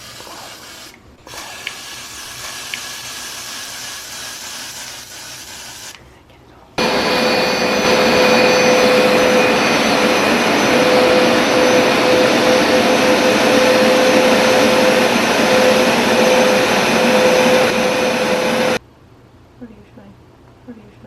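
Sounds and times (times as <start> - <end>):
carpet cleaner suction motor: 0.0 - 5.5, 6.8 - 18.8.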